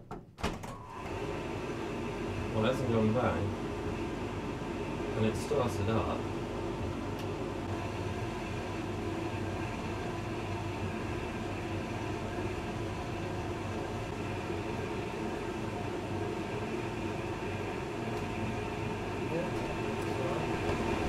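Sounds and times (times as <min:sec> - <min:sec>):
tumble dryer humming and rumbling: 0:00.6 - 0:21.0.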